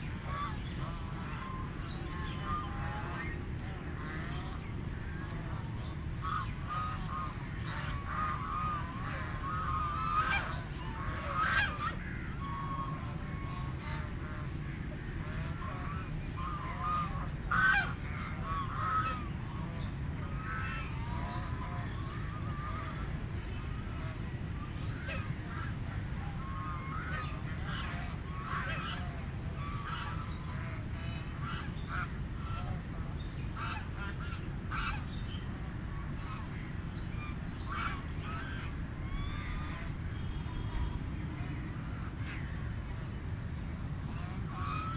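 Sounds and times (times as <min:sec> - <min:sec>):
ducks quacking: 0:00.0 - 0:44.9
steady low rumble: 0:00.0 - 0:44.9.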